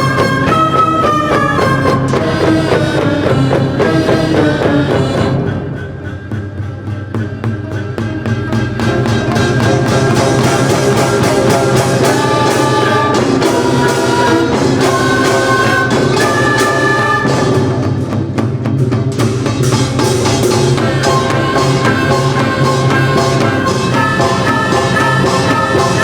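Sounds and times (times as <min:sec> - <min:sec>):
held notes from winds and strings: 0:00.0 - 0:07.8, 0:08.4 - 0:17.9, 0:20.4 - 0:26.0
traditional orchestra playing loudly: 0:00.0 - 0:18.3, 0:19.5 - 0:26.0
rapid dense percussion strikes: 0:00.0 - 0:26.0.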